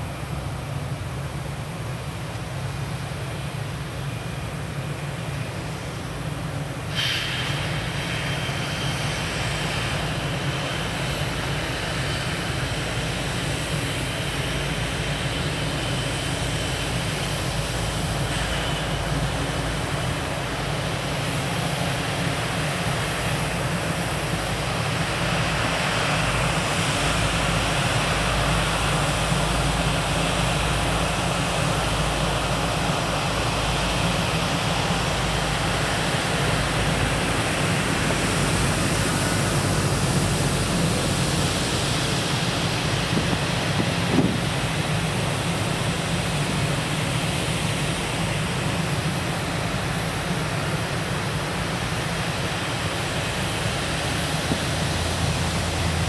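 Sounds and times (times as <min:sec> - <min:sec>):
jet engines rushing hum: 0:00.0 - 0:56.0.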